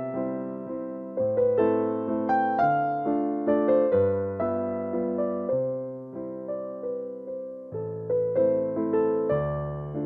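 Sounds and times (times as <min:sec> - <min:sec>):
soft piano-like keyboard tune: 0:00.0 - 0:10.0.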